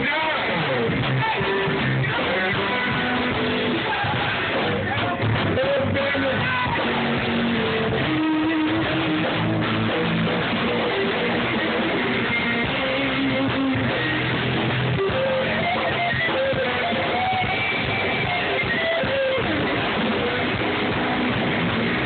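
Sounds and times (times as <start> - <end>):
bass guitar: 0.0 - 22.0
drums: 0.0 - 22.0
electric guitar: 0.0 - 22.0.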